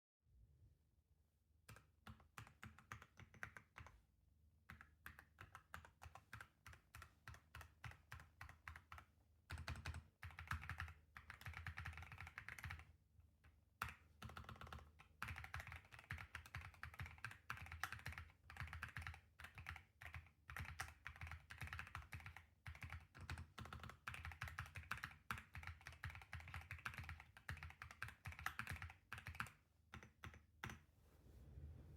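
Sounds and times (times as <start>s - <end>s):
mechanical keyboard typing: 1.7s - 4.0s, 4.7s - 12.8s, 13.8s - 30.8s.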